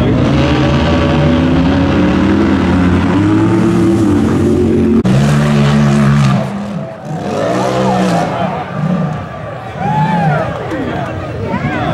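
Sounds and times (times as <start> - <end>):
buggy engine revving: 0.0 - 11.2.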